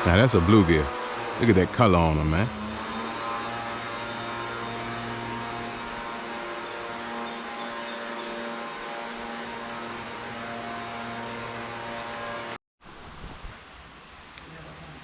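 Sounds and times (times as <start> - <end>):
steady mechanical drone: 0.0 - 12.6.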